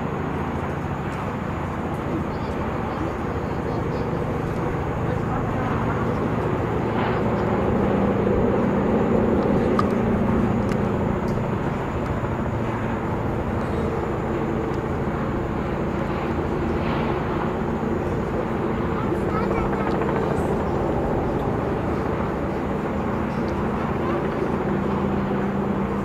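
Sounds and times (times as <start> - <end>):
aircraft propeller engines droning: 0.0 - 26.0.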